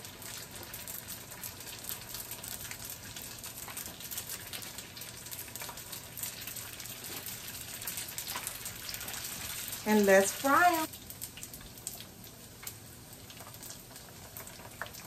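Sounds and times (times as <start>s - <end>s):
egg rolls sizzling in hot oil: 0.0s - 15.0s
oil crackling and popping: 0.0s - 15.0s.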